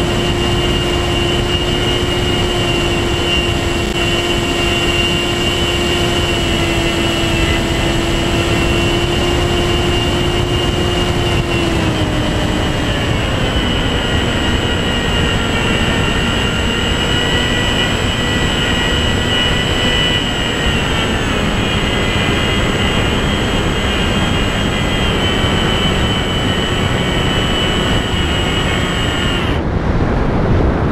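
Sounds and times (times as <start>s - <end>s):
electric motor and propeller whine: 0.0s - 30.9s
wind rush: 0.0s - 30.9s.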